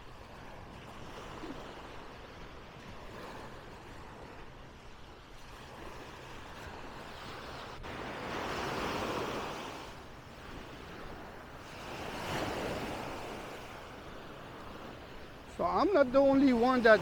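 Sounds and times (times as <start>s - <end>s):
sea waves washing onto sand: 0.0s - 17.0s.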